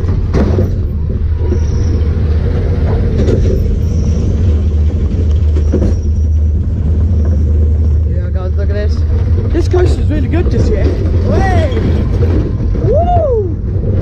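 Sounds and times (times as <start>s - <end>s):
roller coaster clatters: 0.0s - 14.0s
roller coaster wheels rumbling: 0.0s - 14.0s.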